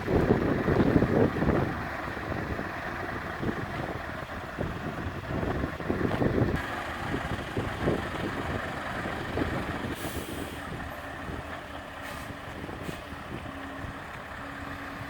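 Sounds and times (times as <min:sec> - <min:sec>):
diesel truck engine rumbling: 0:00.0 - 0:15.0
engine knocks: 0:00.0 - 0:15.0.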